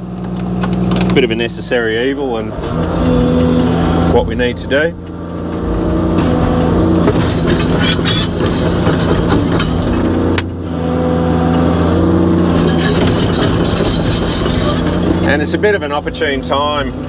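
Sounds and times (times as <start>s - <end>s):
diesel engine running: 0.0s - 17.0s
hydraulic whine: 0.0s - 17.0s.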